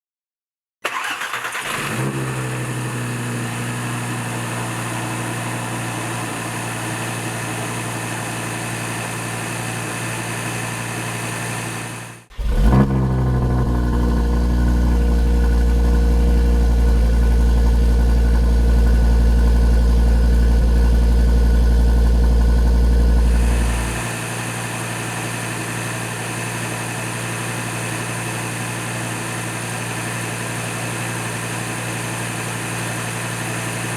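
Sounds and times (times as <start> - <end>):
car engine idling: 1.0 - 33.9.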